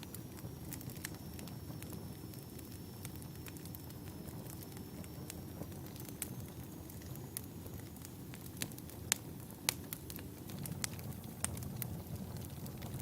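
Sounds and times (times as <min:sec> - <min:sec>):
fire pops and crackles: 0:00.0 - 0:13.0
low rumble of flame: 0:00.0 - 0:13.0.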